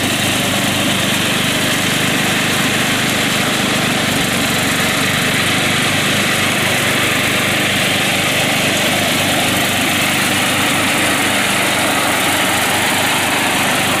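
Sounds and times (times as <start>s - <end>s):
riding lawn mower engine running: 0.0s - 14.0s.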